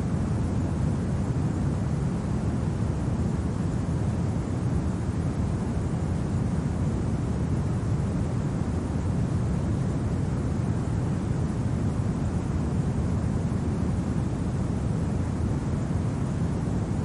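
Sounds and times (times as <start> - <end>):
steady wind rumble: 0.0 - 17.0.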